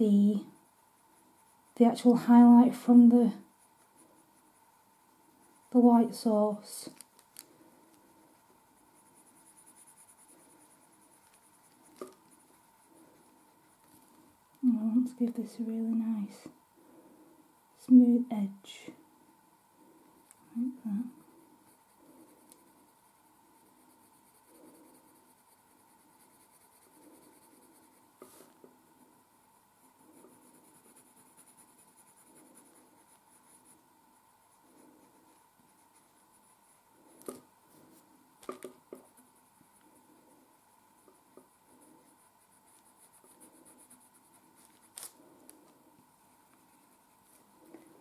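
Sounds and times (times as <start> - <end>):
pencil scratching on paper: 0.0 - 14.4, 20.0 - 48.0.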